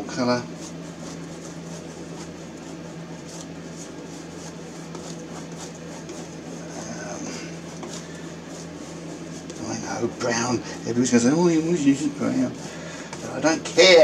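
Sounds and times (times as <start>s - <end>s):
brush scrubbing canvas: 0.0s - 14.0s
low electrical hum: 0.0s - 14.0s.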